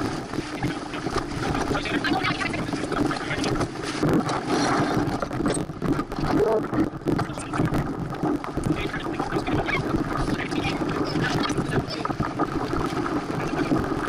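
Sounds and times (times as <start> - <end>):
water rushing past hull: 0.0 - 14.0
wind buffeting microphone: 0.0 - 14.0.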